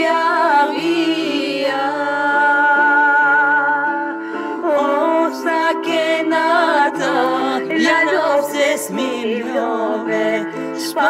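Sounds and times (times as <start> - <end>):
person singing folk song: 0.0 - 11.0.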